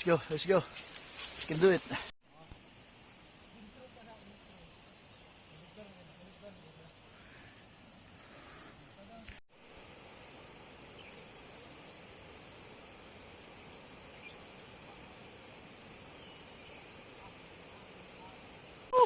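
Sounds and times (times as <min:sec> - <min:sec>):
faint outdoor hiss: 0:00.0 - 0:19.0
insects chirring: 0:00.0 - 0:19.0.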